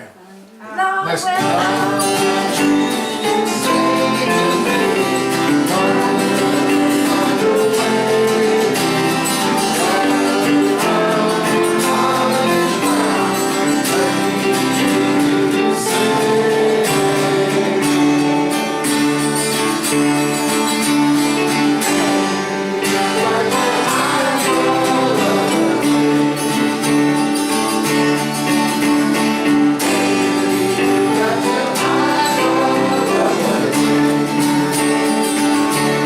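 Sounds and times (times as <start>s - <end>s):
guitar band music with singing: 0.0s - 36.0s.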